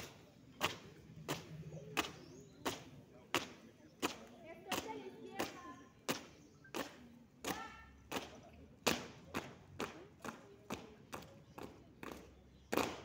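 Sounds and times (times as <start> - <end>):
faint murmuring voices: 0.0 - 13.0
marching footsteps on concrete: 0.0 - 13.0.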